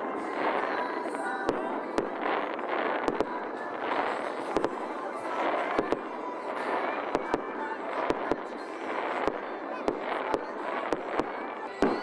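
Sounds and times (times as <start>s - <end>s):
crackling hiss of fireworks: 0.0s - 12.0s
firework bangs: 0.0s - 12.0s.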